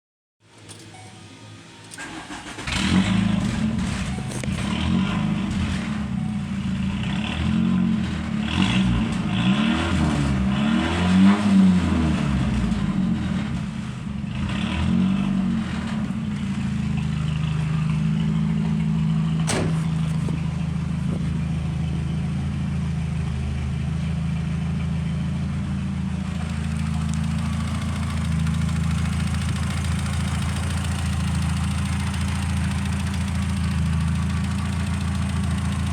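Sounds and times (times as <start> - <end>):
van engine revving and idling: 1.9 - 35.9.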